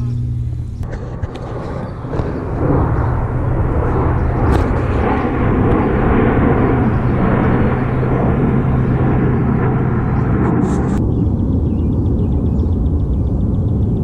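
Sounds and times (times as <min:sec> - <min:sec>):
jet roar overhead: 0:00.0 - 0:14.0.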